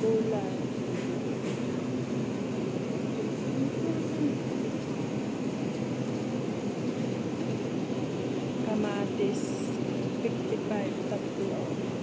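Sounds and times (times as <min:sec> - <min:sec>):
refrigerator hum: 0:00.0 - 0:12.0
rush of air from ventilation: 0:00.0 - 0:12.0.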